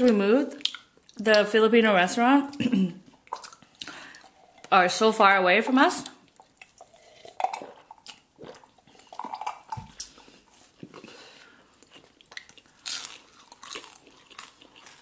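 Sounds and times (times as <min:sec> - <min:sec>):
chewing and mouth smacks: 0:00.0 - 0:01.5, 0:02.5 - 0:04.7, 0:06.0 - 0:15.0.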